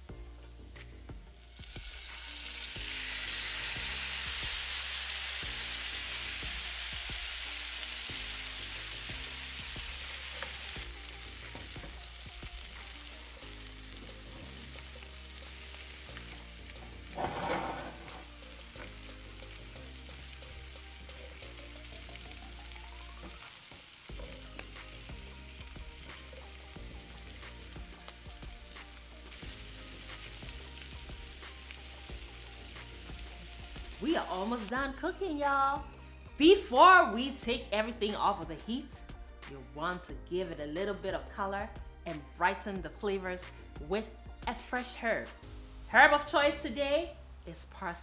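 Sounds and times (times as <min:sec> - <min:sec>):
food sizzling in a skillet: 0:00.0 - 0:45.5.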